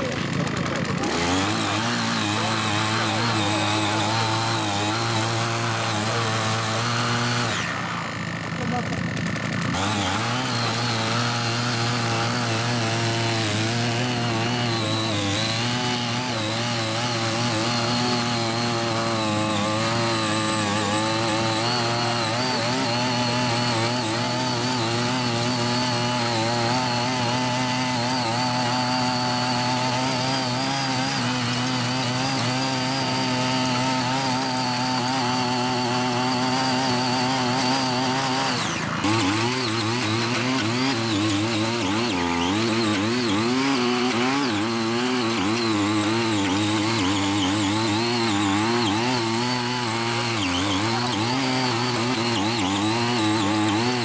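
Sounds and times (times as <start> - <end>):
rotary tiller engine running: 0.0 - 54.0.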